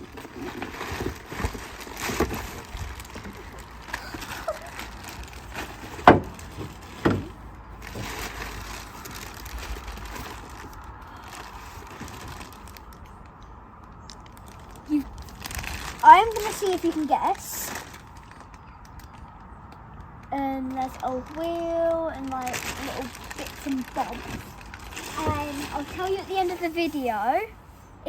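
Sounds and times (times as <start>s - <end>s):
rummaging in cardboard box: 0.0s - 12.7s, 14.8s - 18.4s, 20.7s - 27.5s.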